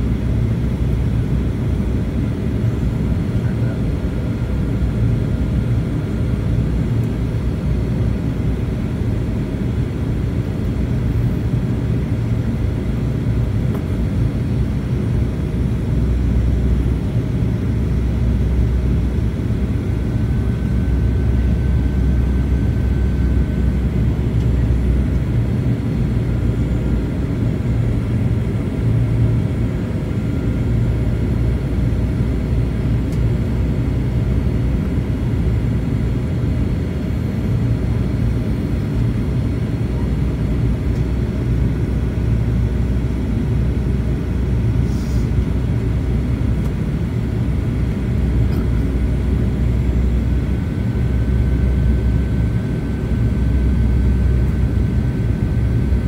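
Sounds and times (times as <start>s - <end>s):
jet engines low rumble: 0.0s - 56.0s.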